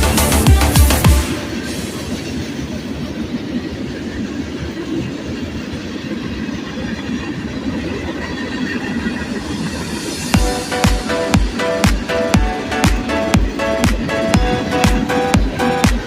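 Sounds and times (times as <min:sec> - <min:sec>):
steady low rumbling: 0:00.0 - 0:16.0.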